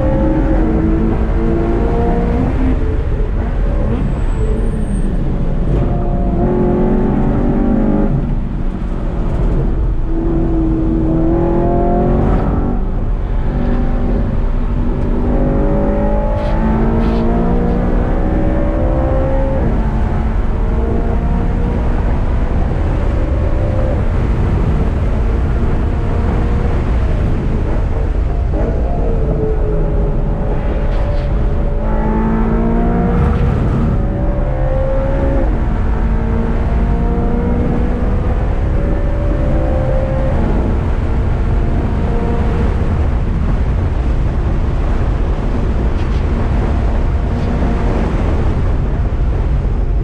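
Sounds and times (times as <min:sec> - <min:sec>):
car engine accelerating: 0:00.0 - 0:50.0
road rumble: 0:00.0 - 0:50.0.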